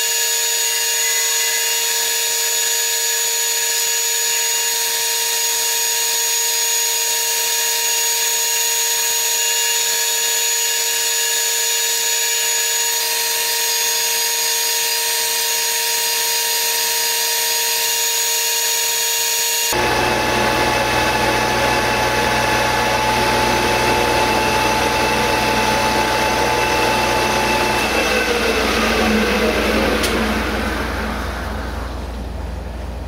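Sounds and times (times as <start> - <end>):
lathe tool cutting metal: 0.0 - 32.1
metal lathe whine: 0.0 - 32.4.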